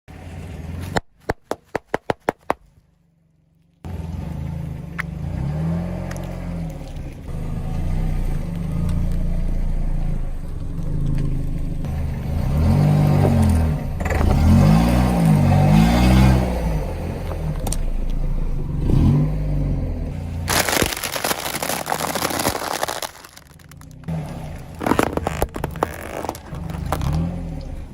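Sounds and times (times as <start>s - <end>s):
car engine revving: 3.8s - 27.9s.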